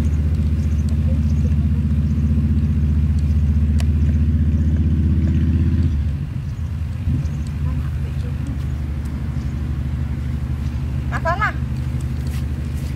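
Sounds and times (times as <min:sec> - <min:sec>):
engine idling with low hum: 0:00.0 - 0:12.9.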